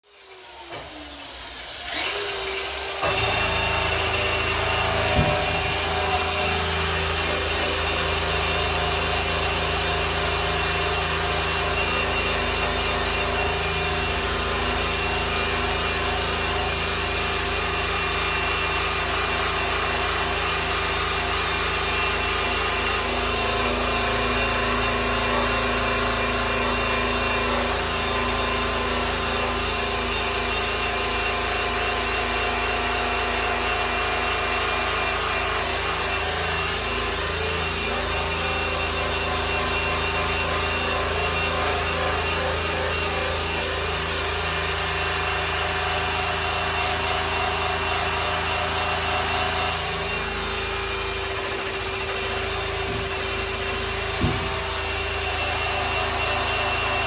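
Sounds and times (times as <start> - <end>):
electric polisher motor whine: 0.0 - 57.0.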